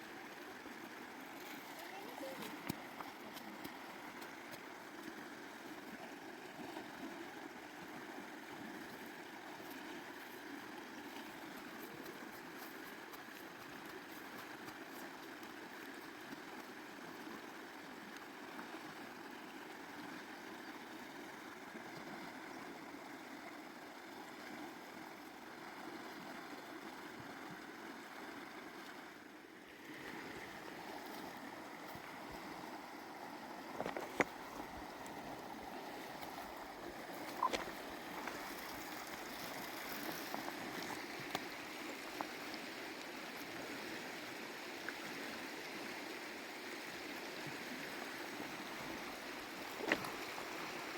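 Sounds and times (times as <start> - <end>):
stream water running: 0.0 - 50.9.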